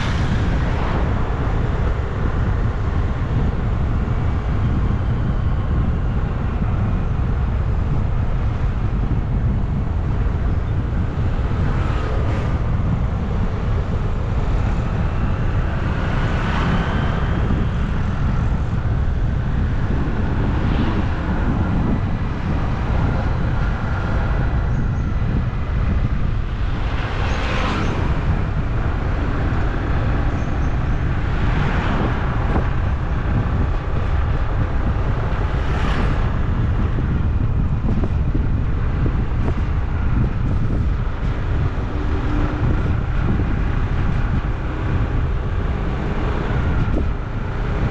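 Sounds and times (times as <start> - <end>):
passing traffic: 0.0 - 47.9
road noise: 0.0 - 47.9
wind rush: 0.0 - 47.9.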